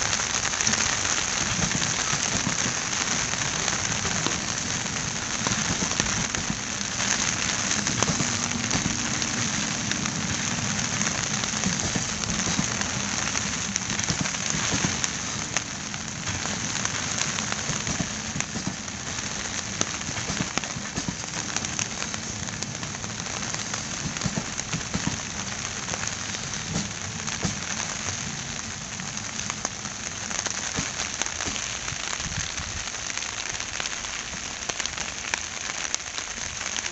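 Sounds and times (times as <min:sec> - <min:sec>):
rain: 0:00.0 - 0:36.9
train wheels hissing on rails: 0:00.0 - 0:36.9.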